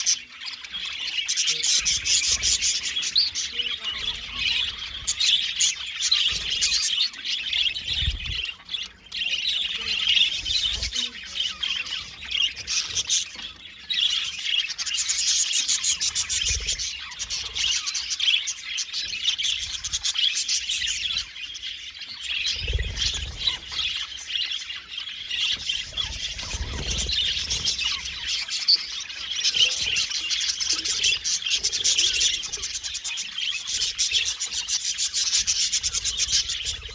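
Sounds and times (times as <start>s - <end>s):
budgerigars chirping: 0.0s - 36.9s.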